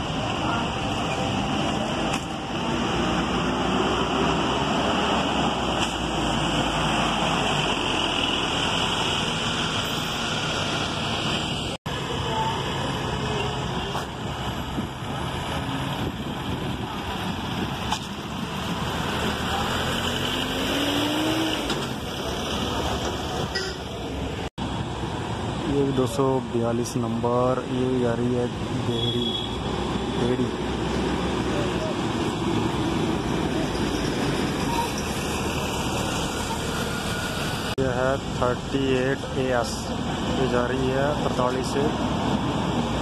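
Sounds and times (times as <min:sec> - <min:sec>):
bus accelerating past: 0:00.0 - 0:25.7, 0:29.6 - 0:43.0
bus engines running: 0:00.0 - 0:43.0
hum of busy bus stand: 0:00.0 - 0:43.0.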